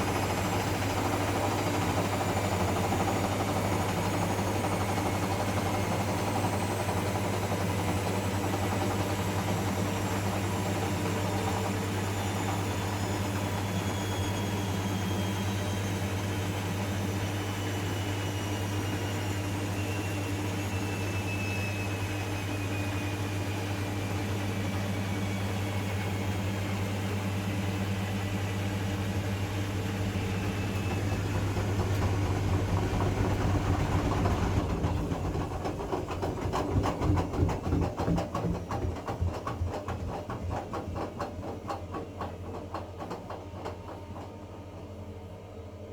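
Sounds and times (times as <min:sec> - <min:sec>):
washing machine spinning: 0:00.0 - 0:45.9.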